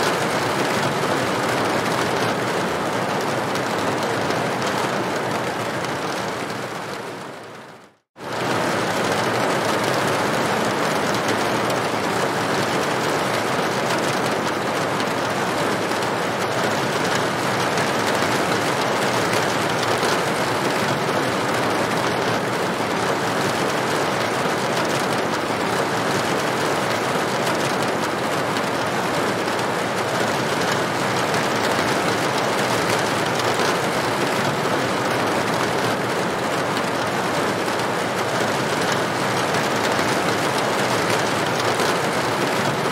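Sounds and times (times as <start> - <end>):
heavy rain on a tin roof: 0.0 - 42.9.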